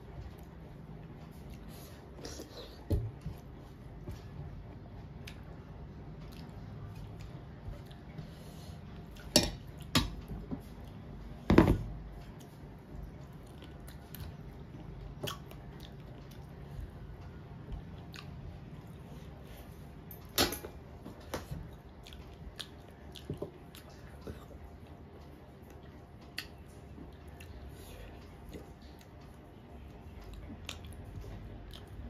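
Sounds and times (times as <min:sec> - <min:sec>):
soft chewing: 0:00.0 - 0:11.3, 0:12.1 - 0:20.2, 0:21.0 - 0:32.0.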